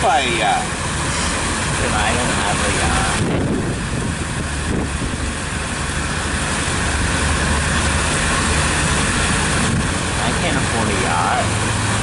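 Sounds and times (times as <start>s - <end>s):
outboard motor drone: 0.0s - 12.0s
wind and water rushing: 0.0s - 12.0s.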